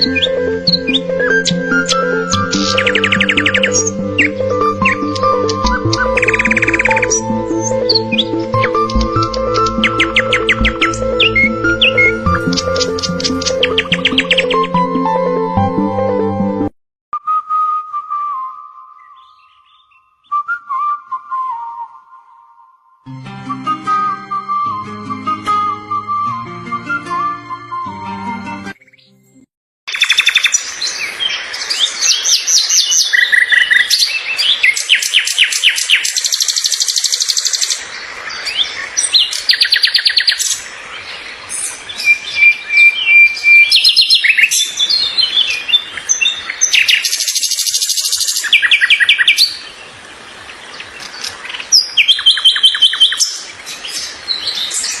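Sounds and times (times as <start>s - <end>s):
songbird singing: 0.0s - 15.1s, 18.3s - 22.6s, 29.9s - 55.0s.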